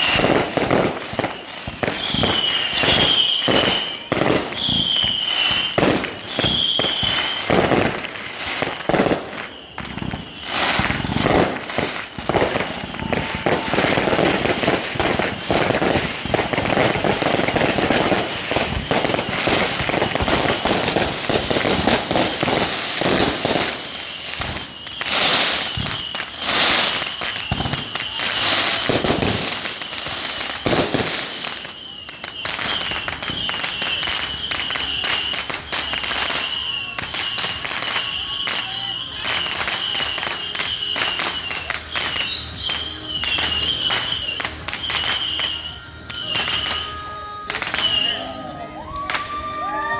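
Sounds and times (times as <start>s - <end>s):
fireworks bangs: 0.0s - 48.2s
fireworks crackling: 0.0s - 49.9s.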